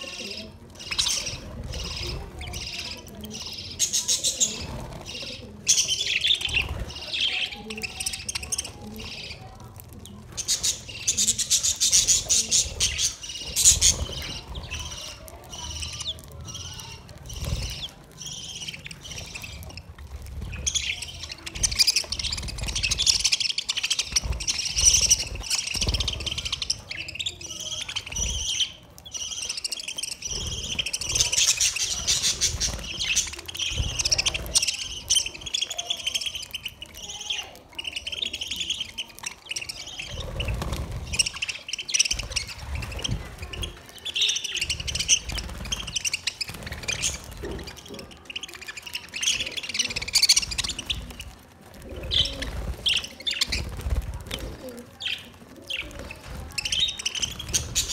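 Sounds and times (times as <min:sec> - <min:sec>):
flock of budgerigars chattering: 0:00.0 - 0:57.9.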